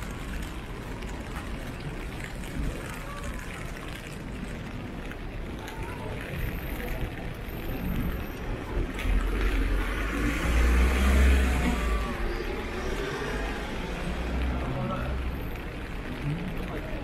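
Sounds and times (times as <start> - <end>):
vehicle passing on wet street: 0.0 - 17.0.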